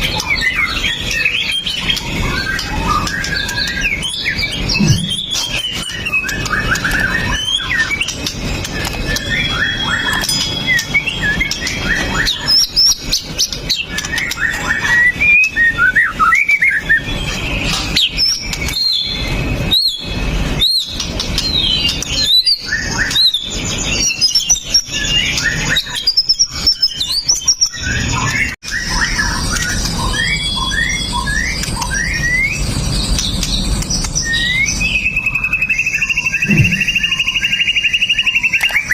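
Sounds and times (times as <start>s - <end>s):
songbird singing chirps and whistles: 0.0s - 38.9s.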